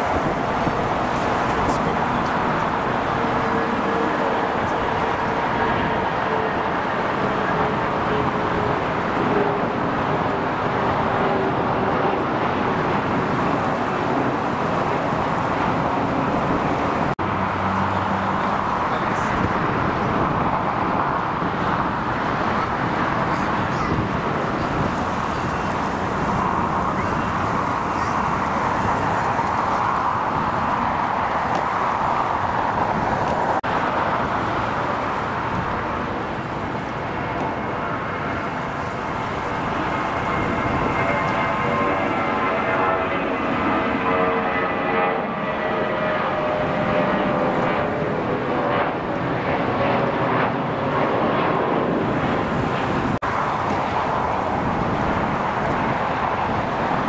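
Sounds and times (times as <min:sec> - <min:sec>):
distant jet engines roaring: 0:00.0 - 0:57.0
road traffic: 0:00.0 - 0:57.0.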